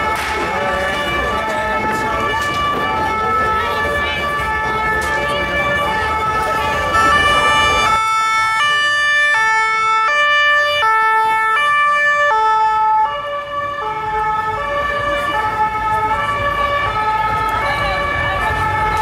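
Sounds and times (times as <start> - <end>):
ambulance two-tone siren: 0.0 - 19.0.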